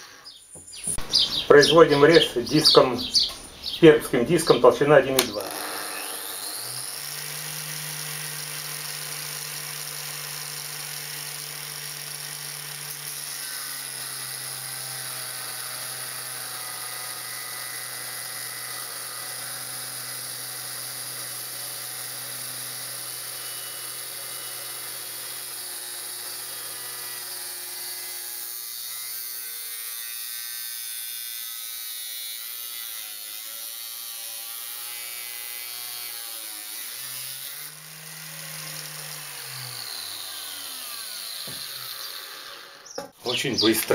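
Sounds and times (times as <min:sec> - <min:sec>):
angle grinder cutting steel: 0:00.0 - 0:43.9.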